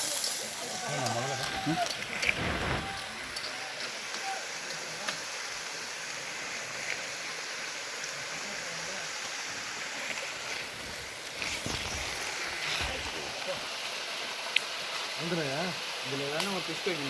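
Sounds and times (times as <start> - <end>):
pot boiling with bubbling hiss: 0.0 - 17.0.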